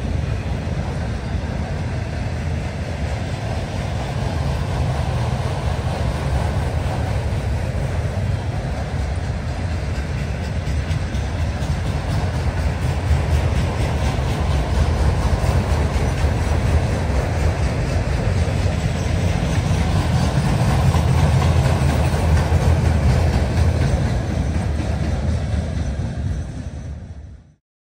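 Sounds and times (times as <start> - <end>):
train wheels rumbling on rail: 0.0 - 27.6.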